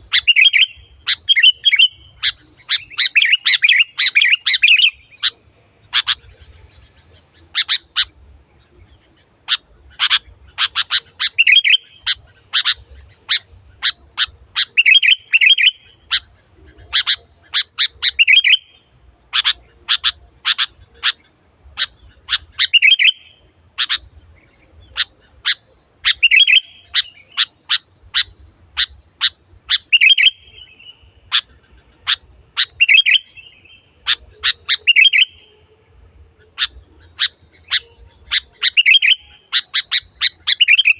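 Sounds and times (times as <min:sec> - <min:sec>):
bulbul chirping: 0:00.0 - 0:35.6, 0:36.3 - 0:40.9.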